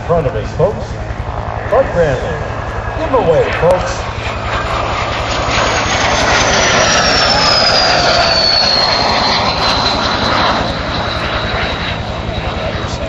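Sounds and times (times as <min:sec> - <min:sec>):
jet flyby roar: 0:00.0 - 0:13.0
jet whine falling in pitch: 0:00.0 - 0:13.0.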